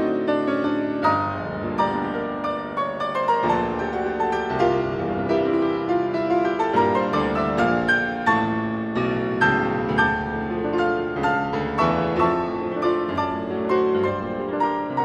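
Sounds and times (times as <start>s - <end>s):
solo classical piano piece: 0.0s - 15.0s.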